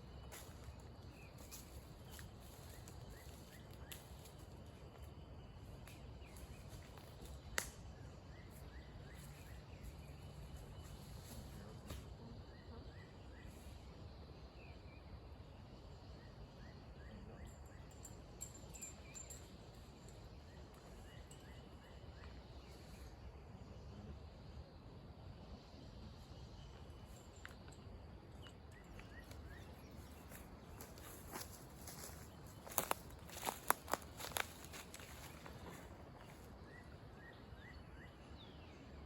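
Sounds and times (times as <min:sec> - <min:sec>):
faint wildlife chirps: 0:00.0 - 0:39.0
low steady background noise: 0:00.0 - 0:39.0.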